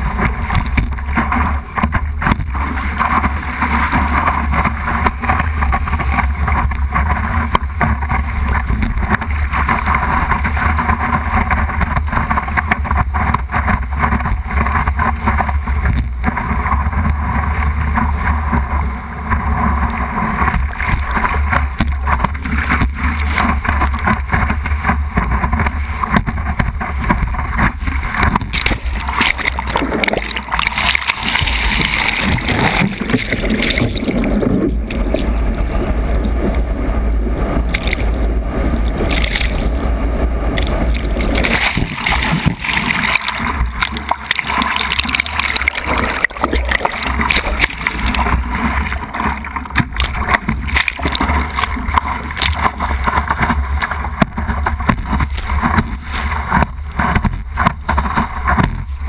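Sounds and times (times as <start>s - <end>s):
water rushing and splashing: 0.0s - 59.0s
waves splashing and gurgling: 0.0s - 59.0s
wind buffeting microphone: 0.0s - 59.0s.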